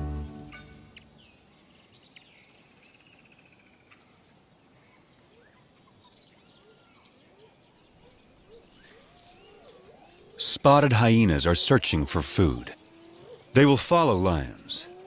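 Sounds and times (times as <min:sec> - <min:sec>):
bird trill: 0:00.0 - 0:11.8, 0:12.7 - 0:15.0
bird chirps: 0:00.0 - 0:15.0
faint background hiss: 0:00.0 - 0:15.0.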